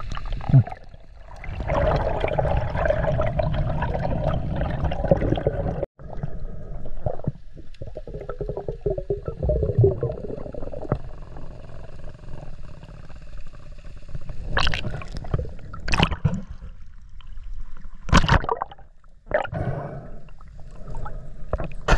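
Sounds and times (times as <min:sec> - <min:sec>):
water sloshing and gurgling: 0:00.0 - 0:21.9.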